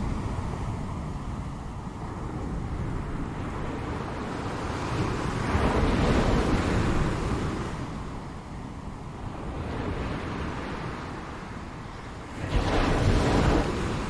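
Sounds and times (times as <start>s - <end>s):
ocean waves washing: 0.0s - 14.0s
wind noise on microphone: 0.0s - 14.0s.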